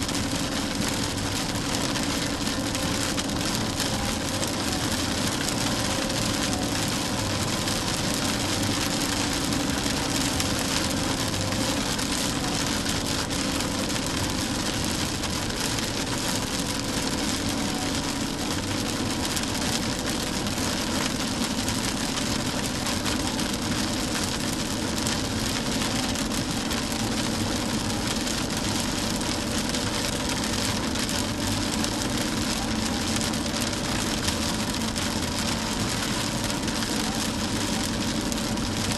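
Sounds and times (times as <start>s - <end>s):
car engine running: 0.0s - 38.9s
rain hiss: 0.0s - 38.9s
wet road noise: 0.0s - 38.9s.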